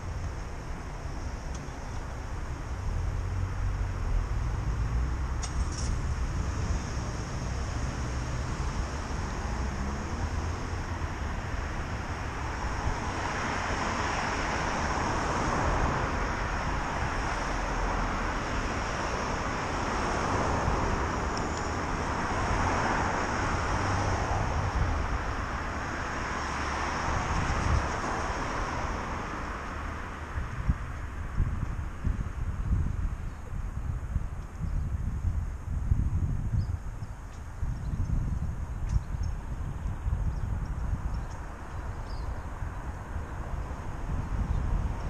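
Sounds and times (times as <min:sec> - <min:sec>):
cars passing: 0:00.0 - 0:34.2, 0:38.2 - 0:45.0
wind on microphone: 0:00.0 - 0:45.0.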